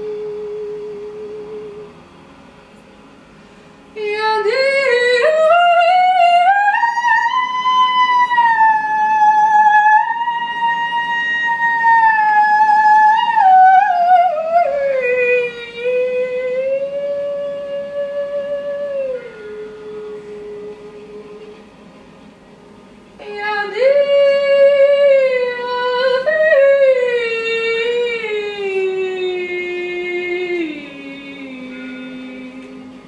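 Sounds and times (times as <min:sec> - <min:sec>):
long wailing note: 0:04.0 - 0:21.6, 0:23.2 - 0:33.0.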